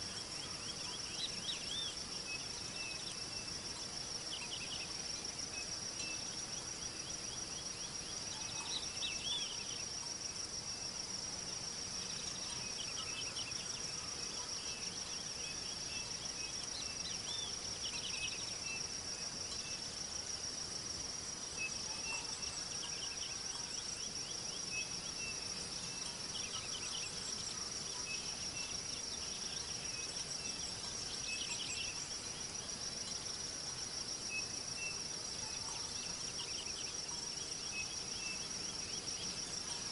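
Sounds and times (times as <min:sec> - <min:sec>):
insect chirps: 0:00.0 - 0:39.9
insects trilling: 0:00.0 - 0:39.9.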